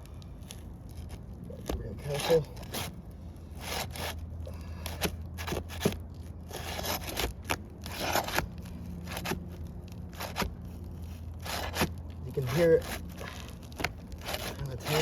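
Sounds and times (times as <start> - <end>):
shingle tearing and crackling: 0.0 - 15.0.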